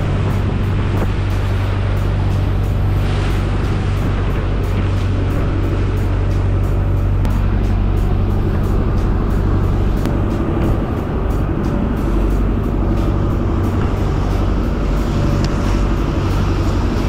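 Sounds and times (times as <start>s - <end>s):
background music: 0.0s - 17.0s
boat engine running: 0.0s - 17.0s
water rushing along hull: 0.0s - 17.0s.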